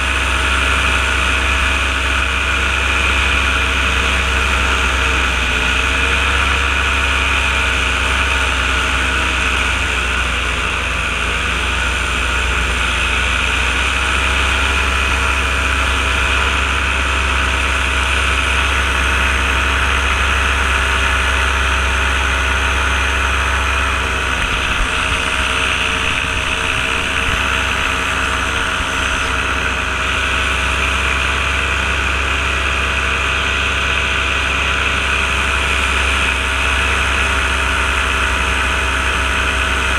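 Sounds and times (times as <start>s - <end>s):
ultralight aircraft engine running: 0.0s - 39.9s.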